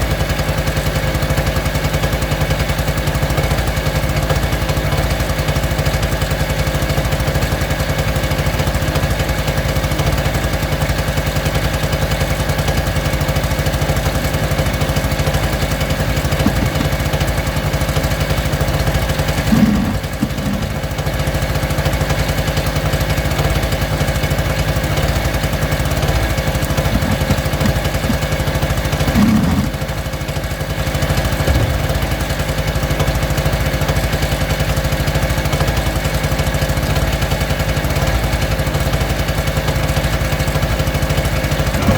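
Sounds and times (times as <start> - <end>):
small two-stroke engine running: 0.0 - 41.9.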